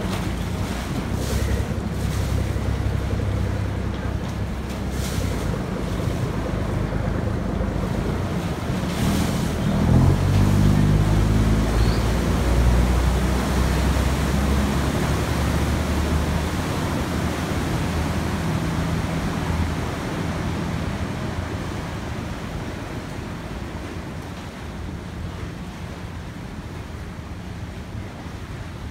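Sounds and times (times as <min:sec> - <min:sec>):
boat engine revving: 0:00.0 - 0:24.2
propeller wash churning water: 0:00.0 - 0:28.9.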